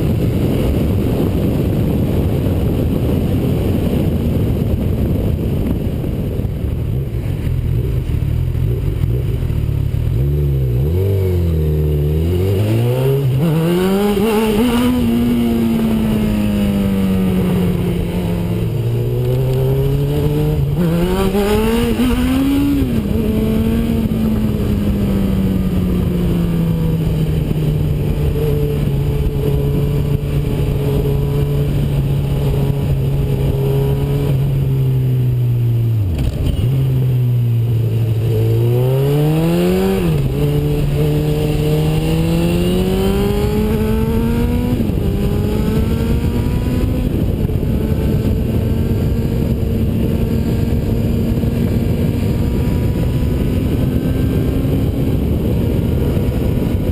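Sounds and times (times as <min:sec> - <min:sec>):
motorcycle engine revving: 0:00.0 - 0:56.9
wind rush: 0:00.0 - 0:56.9.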